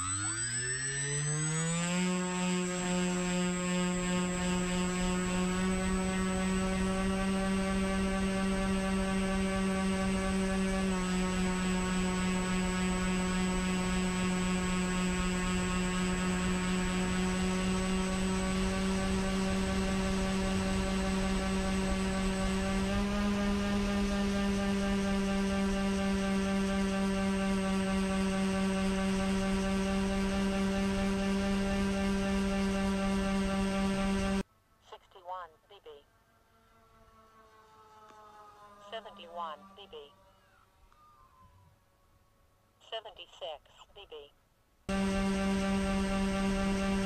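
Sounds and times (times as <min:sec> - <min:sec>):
electric motors and propellers whining: 0:00.0 - 0:34.4, 0:36.4 - 0:41.8, 0:44.9 - 0:47.0.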